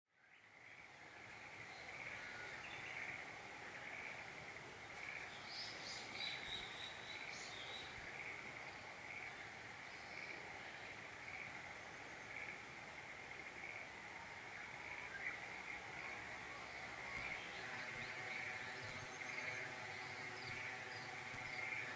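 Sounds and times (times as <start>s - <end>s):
birds chirping: 0.2s - 21.9s.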